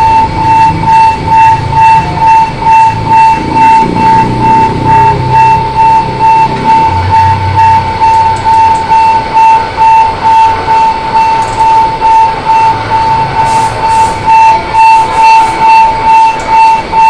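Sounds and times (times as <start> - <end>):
electronic warning beeping: 0.0 - 17.0.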